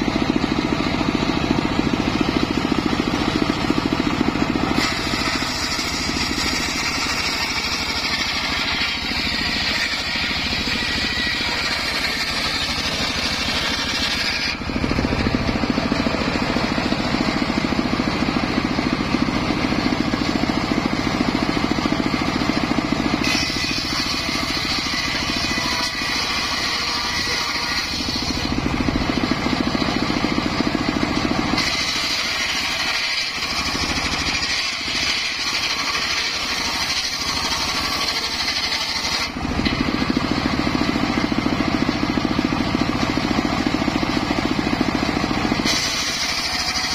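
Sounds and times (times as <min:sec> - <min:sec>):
circular saw blade cutting wood: 0:00.0 - 0:46.9
engine running under load: 0:00.0 - 0:46.9.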